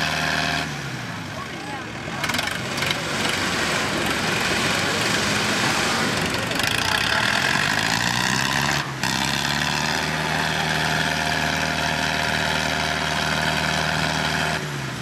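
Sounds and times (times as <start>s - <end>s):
tractor diesel engines revving: 0.0s - 15.0s.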